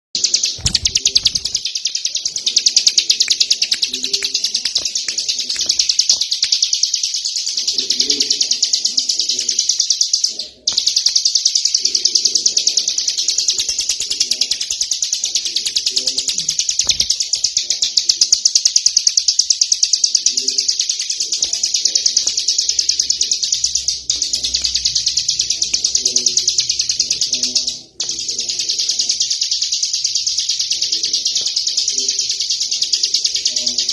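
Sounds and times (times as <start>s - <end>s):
bird trilling song: 0.2s - 33.9s.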